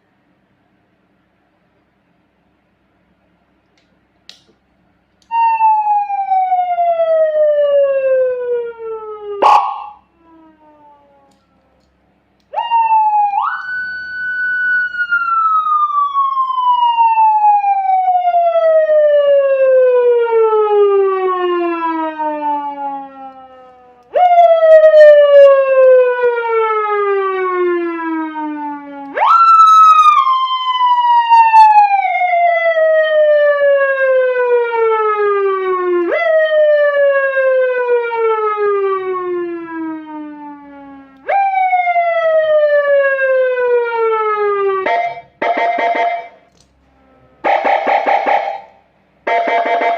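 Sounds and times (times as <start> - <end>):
electronic siren wailing: 5.3 - 11.6, 12.5 - 49.9.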